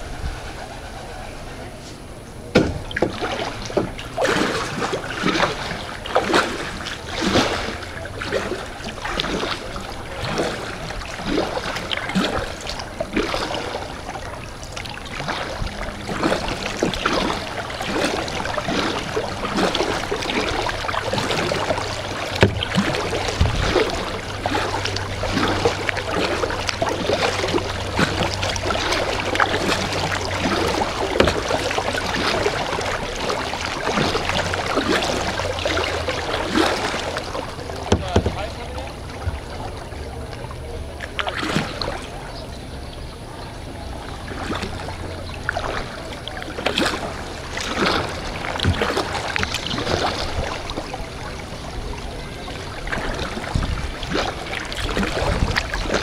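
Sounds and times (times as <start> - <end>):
low steady hum: 0.0 - 56.0
paddle strokes splashing water: 0.0 - 56.0
water trickling off paddle: 0.0 - 56.0.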